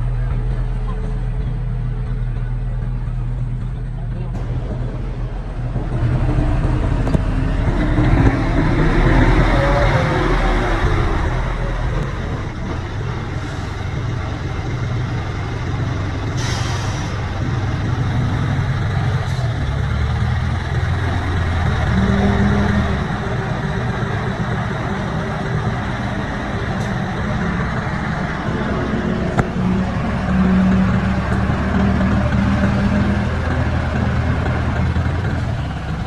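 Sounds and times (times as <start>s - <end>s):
diesel engine of heavy machinery: 0.0s - 36.0s.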